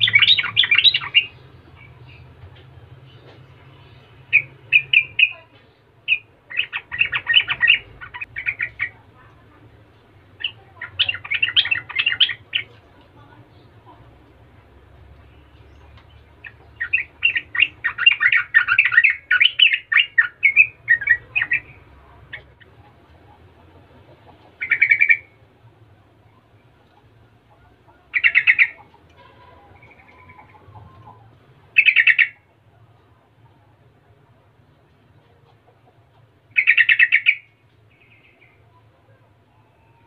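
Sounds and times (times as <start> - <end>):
bird chattering song: 0.0 - 33.6, 34.6 - 40.0.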